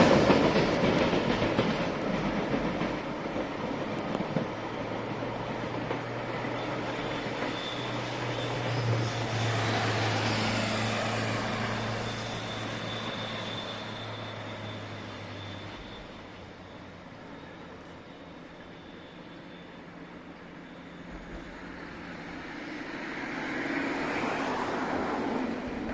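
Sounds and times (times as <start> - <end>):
electric locomotive humming: 0.0 - 25.9
train rail noise: 0.0 - 25.9.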